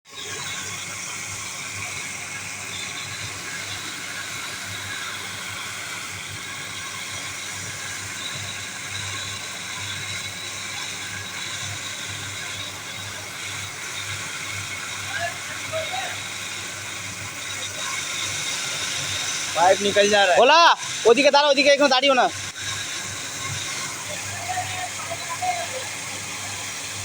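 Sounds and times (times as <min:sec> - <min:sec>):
concrete cutting machine whine: 0:00.1 - 0:27.0.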